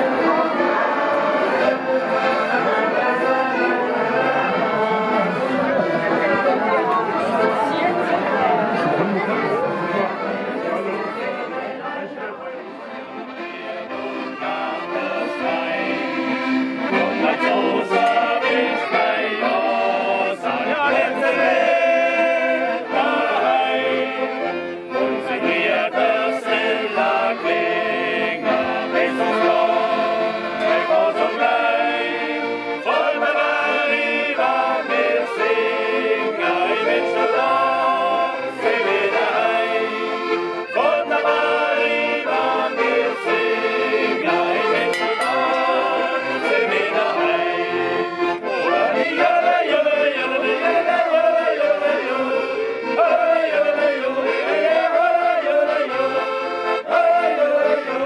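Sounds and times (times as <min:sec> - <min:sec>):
group of people singing: 0:00.0 - 0:11.2, 0:13.3 - 0:58.0
accordions playing: 0:00.0 - 0:58.0.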